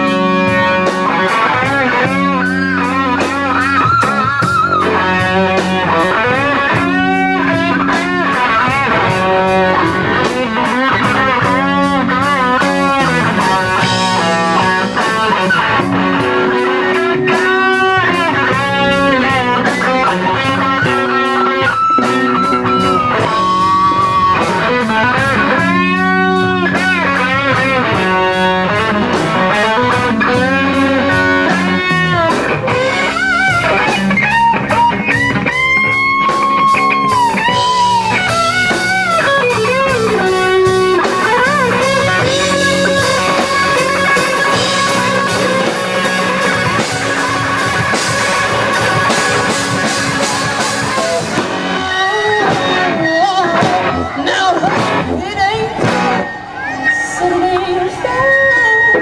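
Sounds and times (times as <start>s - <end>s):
bass guitar: 0.0s - 59.0s
drums: 0.0s - 59.0s
electric guitar solo: 0.0s - 59.0s.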